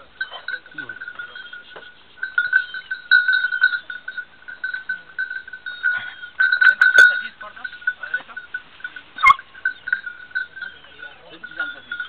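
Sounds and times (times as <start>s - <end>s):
small metal bell jingling: 0.0s - 12.0s.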